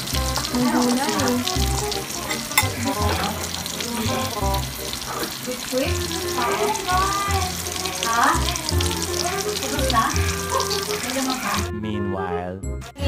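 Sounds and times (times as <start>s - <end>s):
food frying in hot oil: 0.0s - 11.7s.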